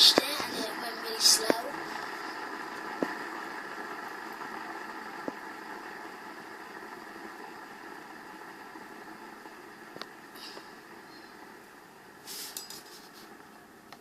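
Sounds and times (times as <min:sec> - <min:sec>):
fidget spinner whirring: 0:00.0 - 0:14.0.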